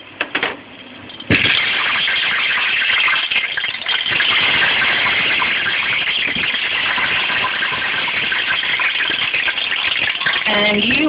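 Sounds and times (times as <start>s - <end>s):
potatoes sizzling in hot oil: 1.3s - 11.0s.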